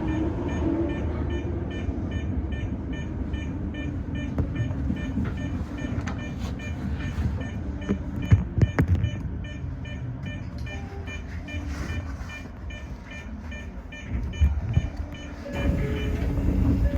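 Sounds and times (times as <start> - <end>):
electric train rumbling: 0.0 - 8.8, 9.4 - 16.9.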